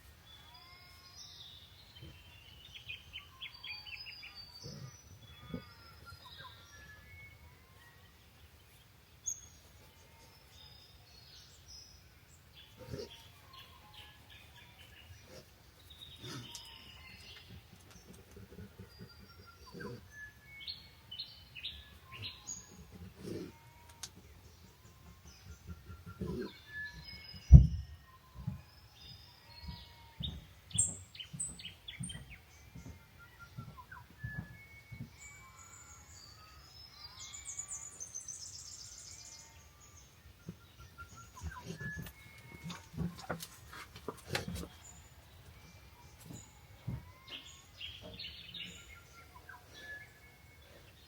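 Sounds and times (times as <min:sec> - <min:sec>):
birds chirping and trilling: 0:00.2 - 0:51.0.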